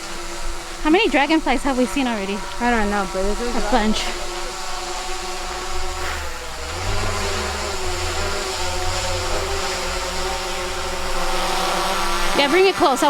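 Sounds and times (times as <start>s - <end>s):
drone propellers buzzing whine: 0.0s - 13.0s.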